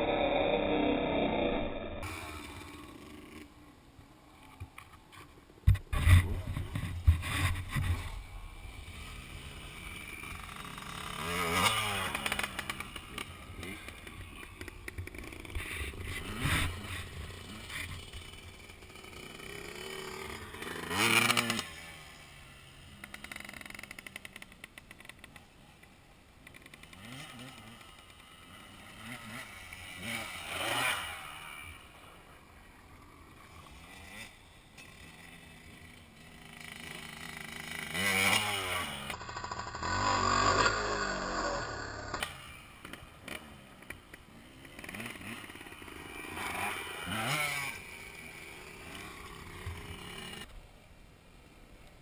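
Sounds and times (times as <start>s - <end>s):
dirt bike engines revving: 0.0s - 50.5s.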